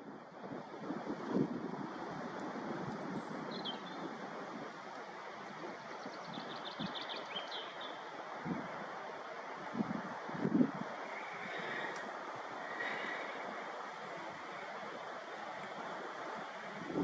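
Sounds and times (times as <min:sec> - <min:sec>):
wind rushing on microphone: 0:00.0 - 0:17.0
songbirds chirping: 0:02.9 - 0:17.0.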